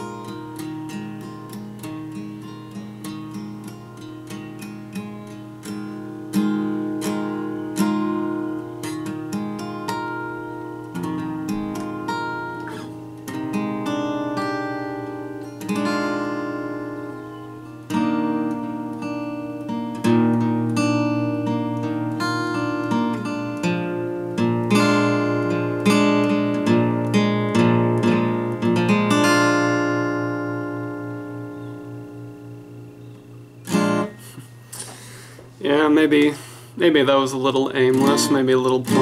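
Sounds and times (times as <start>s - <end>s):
acoustic guitar: 0.0s - 39.0s.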